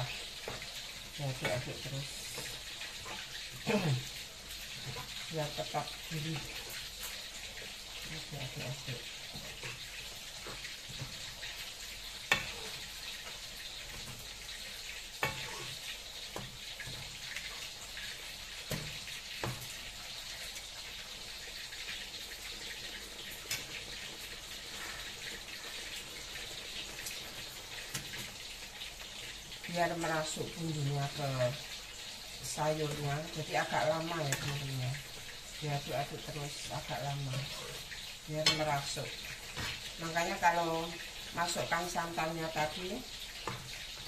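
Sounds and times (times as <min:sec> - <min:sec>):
food sizzling in a pan: 0:00.0 - 0:44.0.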